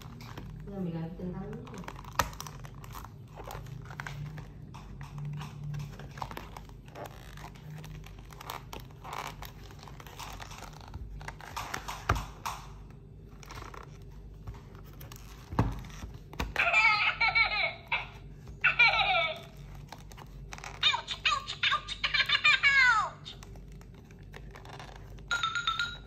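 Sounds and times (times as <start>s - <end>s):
cardboard book pages turning: 0.0s - 0.8s, 1.5s - 16.6s, 18.2s - 25.3s.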